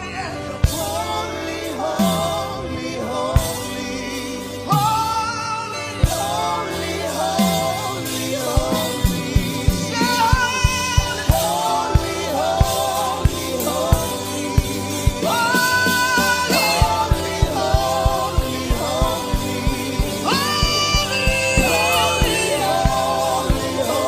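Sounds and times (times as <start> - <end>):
voices singing gospel song: 0.0 - 24.0
band with steady drum beat: 0.6 - 24.0.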